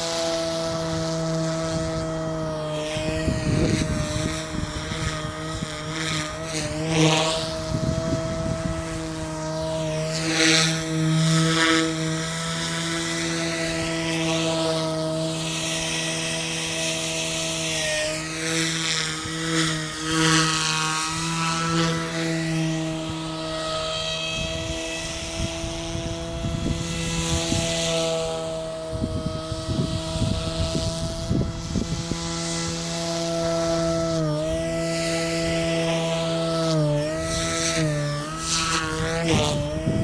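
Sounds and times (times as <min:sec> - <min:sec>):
rc helicopter flying: 0:00.0 - 0:40.0.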